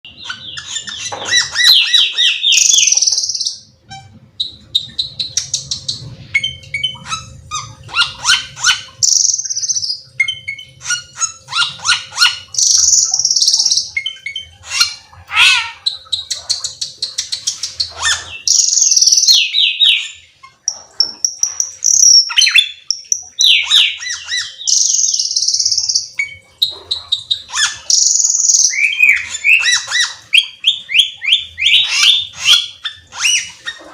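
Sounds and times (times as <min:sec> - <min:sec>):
songbird singing trills and squawks: 0:00.1 - 0:33.9.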